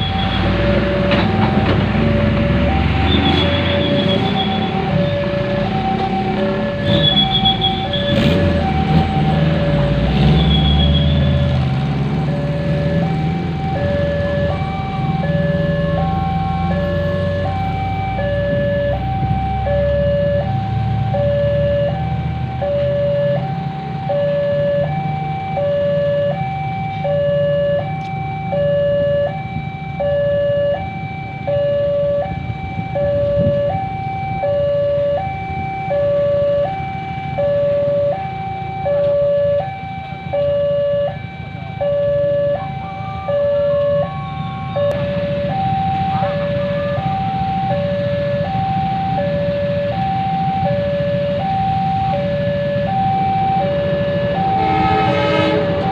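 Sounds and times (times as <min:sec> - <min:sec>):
heavy vehicle engine rumble: 0:00.0 - 0:55.9
two-tone siren: 0:00.0 - 0:55.9.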